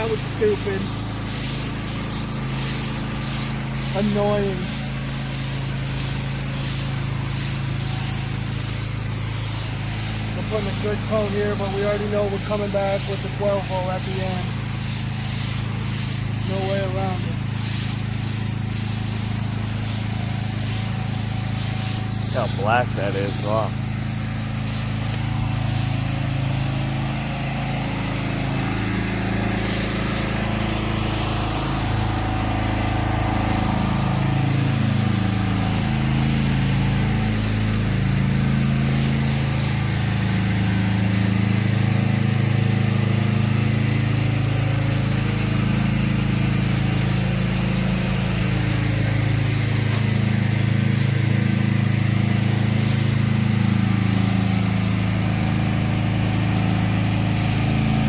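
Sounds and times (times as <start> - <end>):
hiss of spray: 0.0 - 58.0
pressure washer engine running: 0.0 - 58.0.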